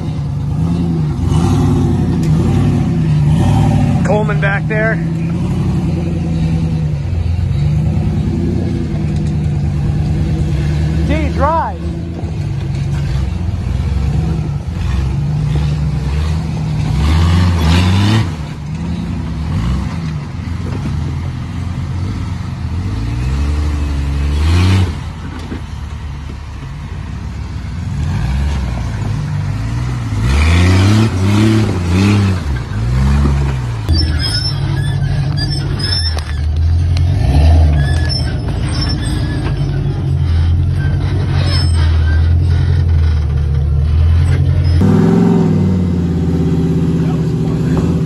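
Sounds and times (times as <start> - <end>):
off-road engine revving: 0.0 - 48.0.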